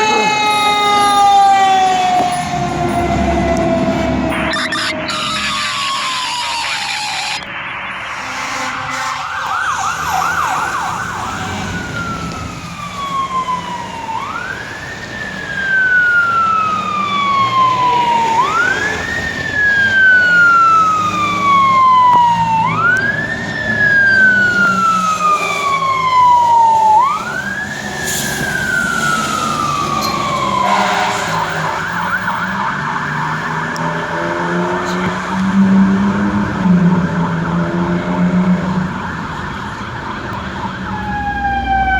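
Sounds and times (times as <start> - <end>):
fire truck siren: 0.0 - 41.9.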